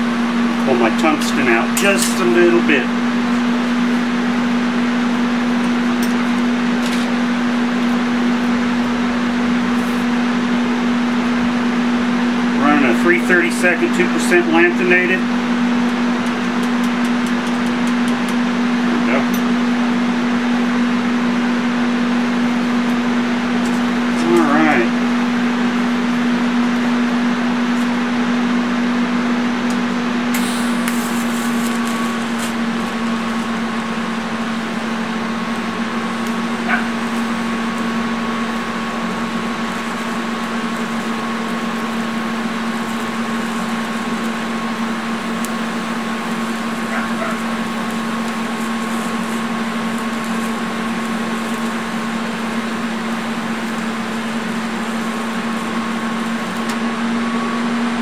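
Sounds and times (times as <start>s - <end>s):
welding arc buzzing: 0.0s - 58.0s.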